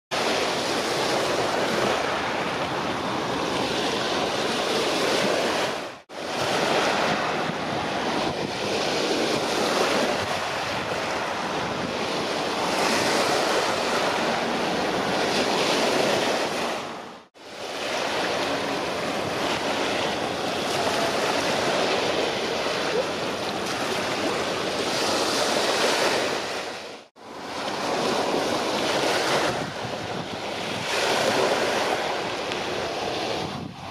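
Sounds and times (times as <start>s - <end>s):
sea waves: 0.1s - 33.9s
wind buffeting microphone: 0.2s - 33.9s.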